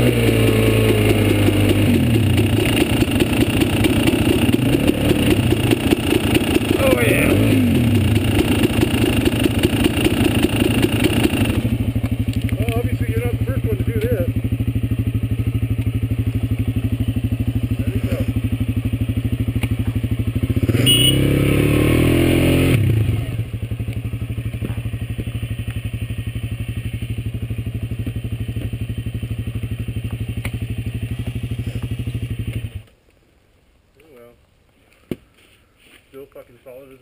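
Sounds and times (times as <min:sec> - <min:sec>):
dirt bike engine idling and revving: 0:00.0 - 0:33.0.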